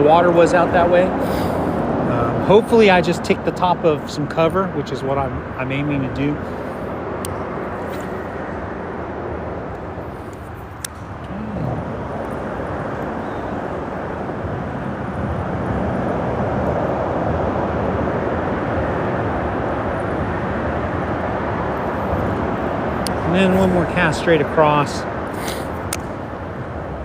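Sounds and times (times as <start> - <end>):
freeway traffic rumbling: 0.0 - 27.0.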